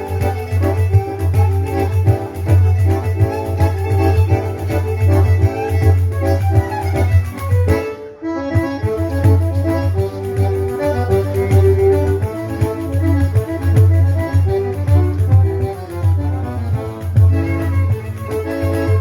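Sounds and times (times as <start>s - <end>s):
organ-like keyboard chords: 0.0s - 19.0s.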